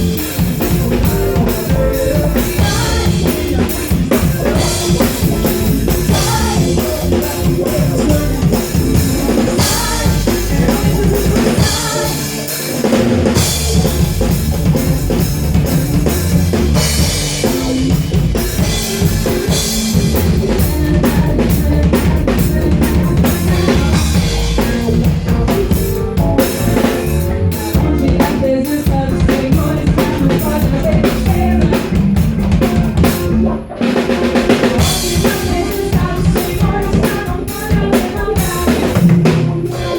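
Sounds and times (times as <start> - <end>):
live band playing instrumental: 0.0 - 39.9.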